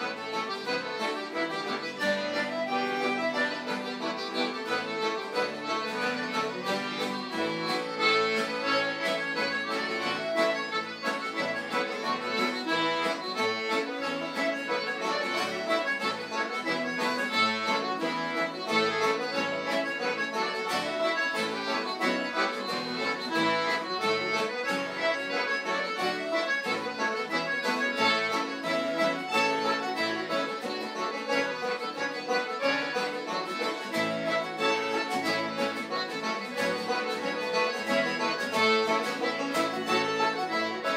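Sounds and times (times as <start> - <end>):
accordion-led folk tune: 0.0 - 40.9
rhythmic accompaniment: 0.0 - 40.9.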